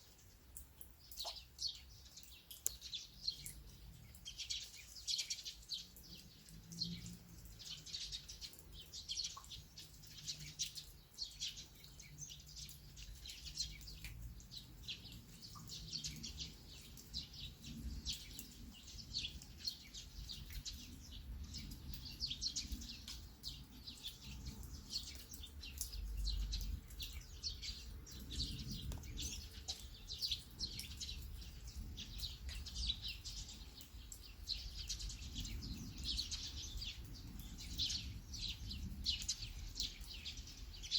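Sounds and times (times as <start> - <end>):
rain falling: 0.0 - 40.9
small birds chirping: 0.0 - 40.9.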